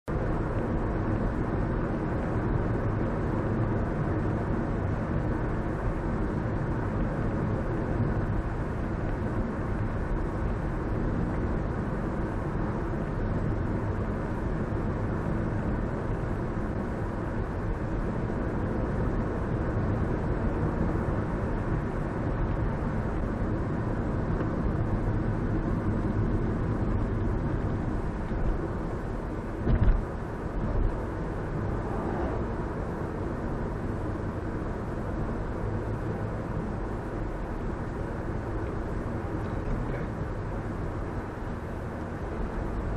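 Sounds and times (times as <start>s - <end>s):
car road and engine rumble: 0.0s - 42.9s.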